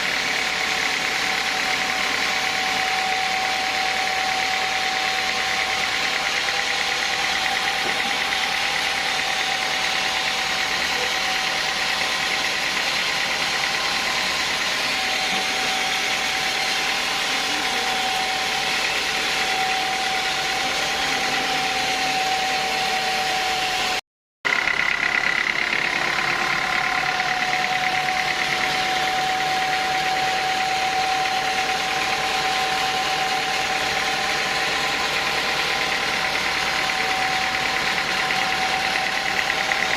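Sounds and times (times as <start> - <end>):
high whine: 0.0 - 39.9
sawmill machinery running: 0.0 - 39.9.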